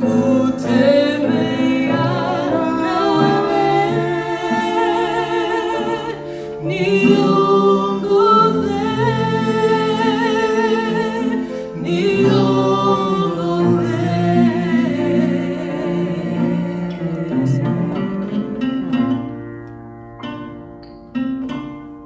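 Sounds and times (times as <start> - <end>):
voices singing in harmony: 0.0 - 19.4
sustained low notes: 0.0 - 19.8.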